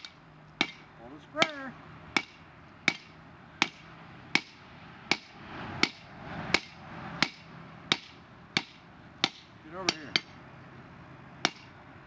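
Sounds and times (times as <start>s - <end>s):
hammer striking steel on anvil: 0.0s - 1.6s, 2.2s - 10.4s, 11.4s - 11.7s
soft rushing noise: 0.2s - 12.0s.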